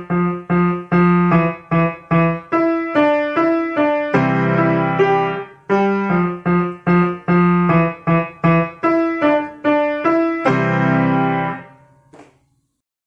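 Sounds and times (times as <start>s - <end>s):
piano notes played by child: 0.0s - 12.3s.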